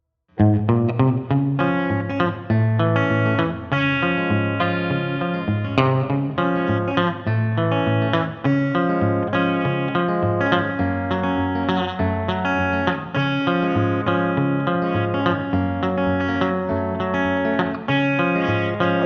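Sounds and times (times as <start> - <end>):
guitar music with bass and beat: 0.4 - 19.0.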